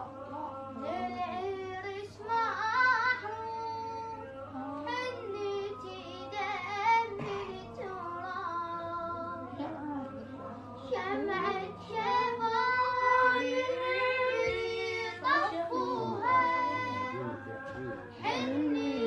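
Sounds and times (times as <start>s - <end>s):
boy singing a lament: 0.0s - 19.0s.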